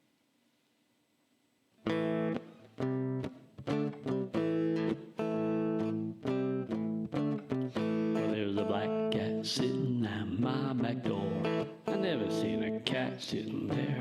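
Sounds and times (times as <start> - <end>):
guitar strumming short chords: 1.8 - 14.0.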